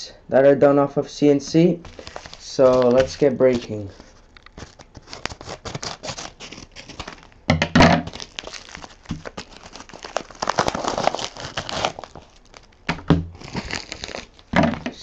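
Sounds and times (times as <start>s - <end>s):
package wrapping tearing and rustling: 1.8s - 15.0s.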